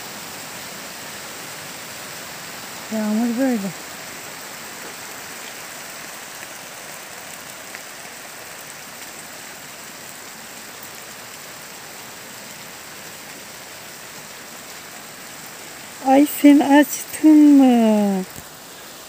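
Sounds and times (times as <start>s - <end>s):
rain on grass and leaves: 0.0s - 19.0s.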